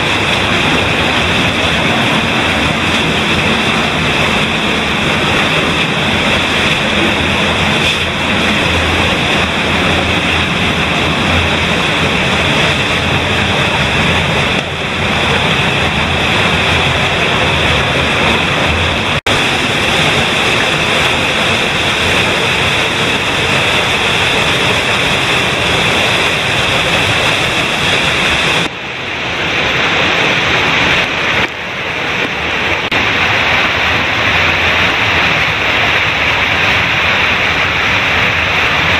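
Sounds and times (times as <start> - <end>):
fast-flowing stream rushing: 0.0 - 38.9.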